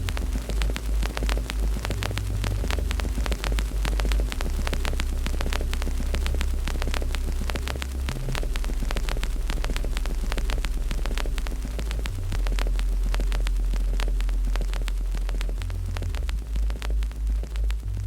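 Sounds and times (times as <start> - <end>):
steady low rumble: 0.0 - 18.0
wood fire crackling: 0.0 - 18.0.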